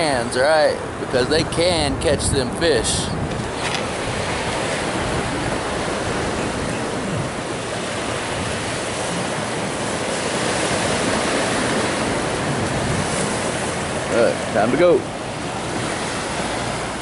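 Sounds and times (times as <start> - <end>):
ocean surf washing in: 0.0 - 17.0.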